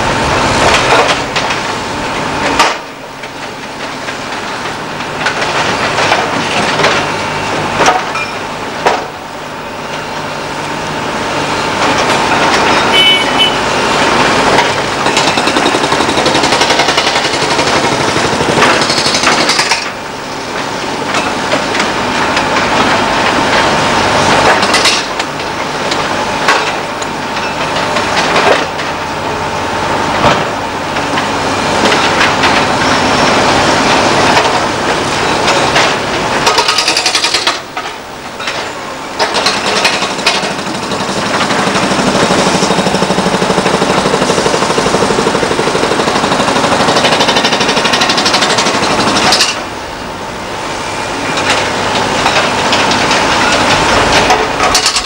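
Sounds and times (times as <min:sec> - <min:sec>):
diesel engines running: 0:00.0 - 0:55.0
hydraulic rock breaker hammering: 0:00.0 - 0:55.0.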